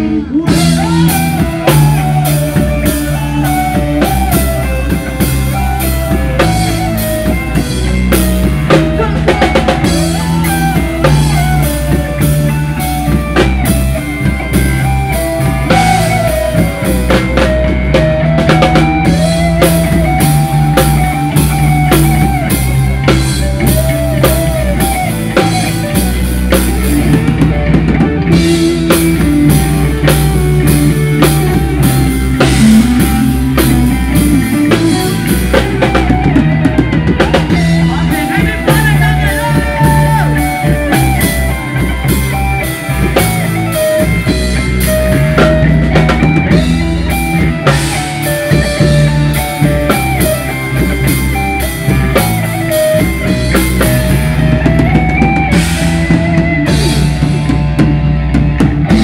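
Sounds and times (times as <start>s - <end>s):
drum kit with cymbal hits: 0.0s - 59.0s
guitar melody: 0.0s - 59.0s
low bass line: 0.0s - 59.0s.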